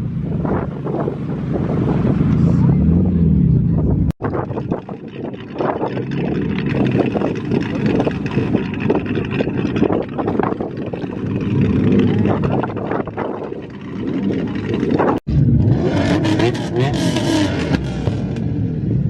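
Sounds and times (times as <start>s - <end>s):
car engines with deep exhaust: 0.0s - 19.0s.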